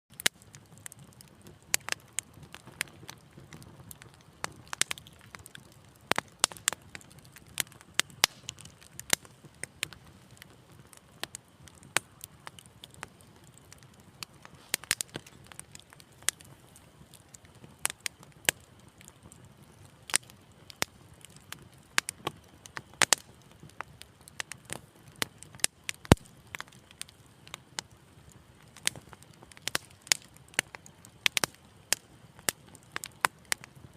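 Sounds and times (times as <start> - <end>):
low rumble of flames: 0.1 - 33.9
wood fire crackling and popping: 0.1 - 33.9.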